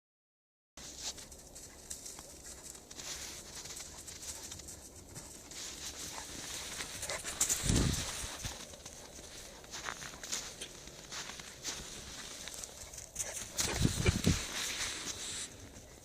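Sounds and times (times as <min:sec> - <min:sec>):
paws crunching in snow: 0:00.8 - 0:16.0.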